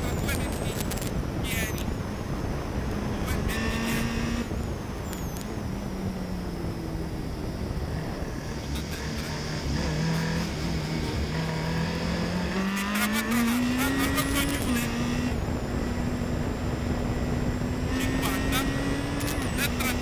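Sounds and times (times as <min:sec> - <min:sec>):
rally car engine running: 0:00.0 - 0:20.0
tyre and road noise: 0:00.0 - 0:20.0.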